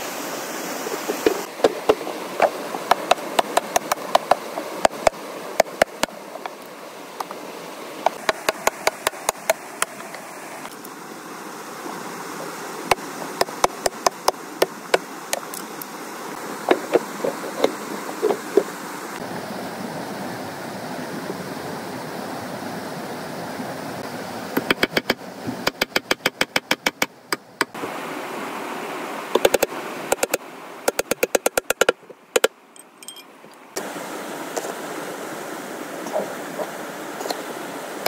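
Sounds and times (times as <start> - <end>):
river water rushing: 0.0 - 25.6, 27.7 - 31.1, 32.1 - 38.0.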